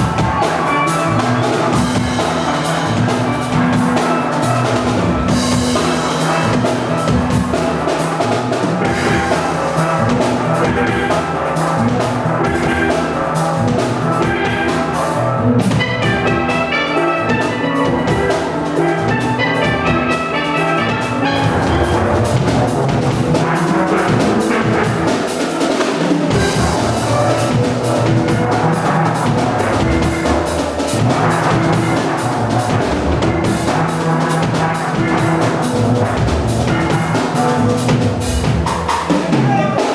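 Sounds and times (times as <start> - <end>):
drum beat: 0.0 - 39.9
steel pans playing melody: 0.0 - 39.9.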